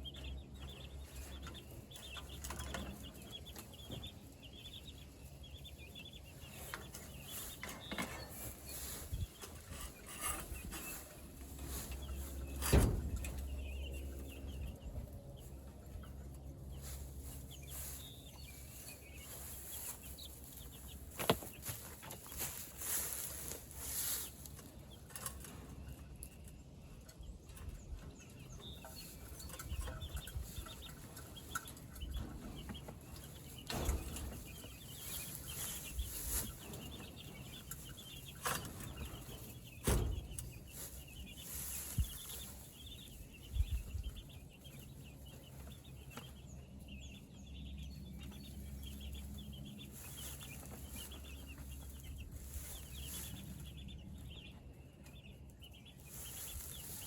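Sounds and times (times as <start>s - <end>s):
chickens peeping and clucking: 0.0s - 57.0s.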